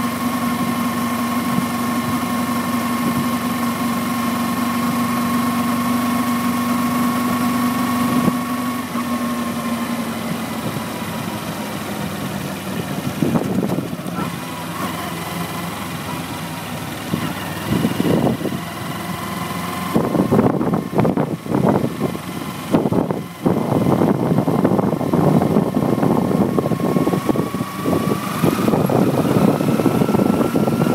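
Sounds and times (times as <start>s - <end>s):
motorcycle engine running: 0.0s - 30.9s
uneven engine rumbling bursts: 0.0s - 30.9s.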